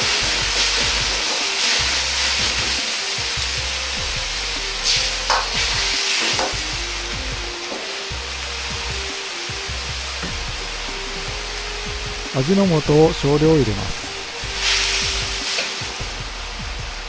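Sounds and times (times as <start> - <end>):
stock sizzling and bubbling in wok: 0.0 - 17.0.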